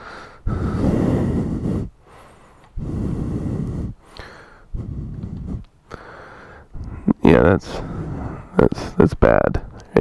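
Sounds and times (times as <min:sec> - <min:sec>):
man breathing heavily: 0:00.0 - 0:09.0.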